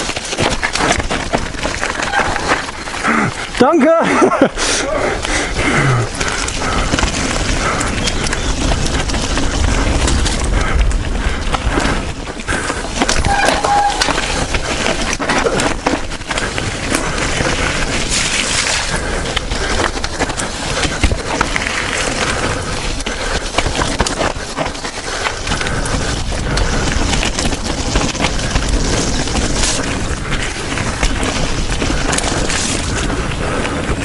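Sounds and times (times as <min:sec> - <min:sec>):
bike clattering over bumps: 0:00.0 - 0:04.5, 0:05.1 - 0:34.0
bike tyres crunching over rocks: 0:00.0 - 0:34.0.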